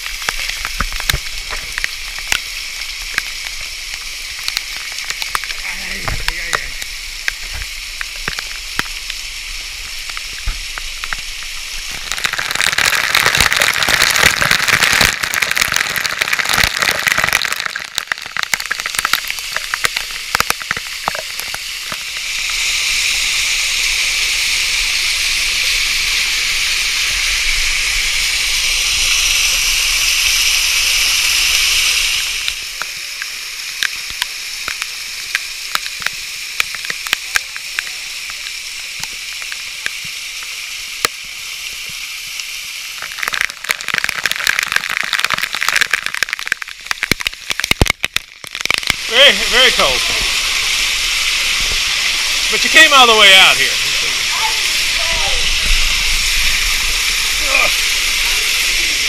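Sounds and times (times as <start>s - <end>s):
spatter of water drops: 0.0s - 9.2s, 9.9s - 22.7s, 32.4s - 42.0s, 42.9s - 59.0s
waterfall pouring onto rocks: 0.0s - 59.0s.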